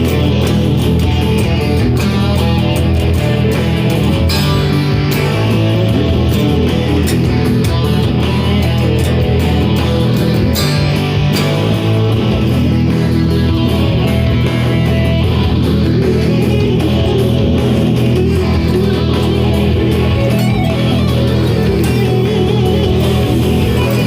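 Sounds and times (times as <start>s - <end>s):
guitar rapid picking: 0.0s - 24.0s.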